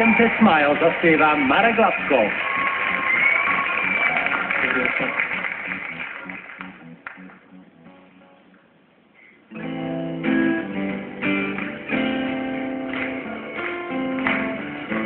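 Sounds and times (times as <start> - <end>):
acoustic guitar strumming chords: 1.5 - 15.0.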